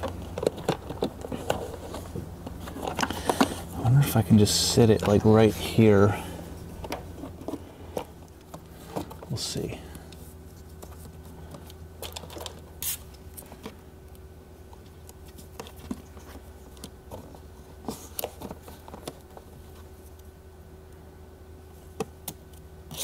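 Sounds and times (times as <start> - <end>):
cable clicks and rustles: 0.0 - 5.7, 6.6 - 20.4
steady low hum: 0.0 - 23.0.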